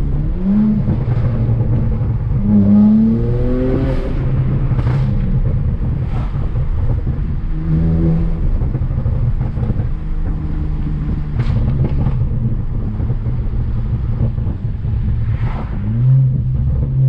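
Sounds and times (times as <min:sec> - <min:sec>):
car engine revving through exhaust: 0:00.0 - 0:17.0.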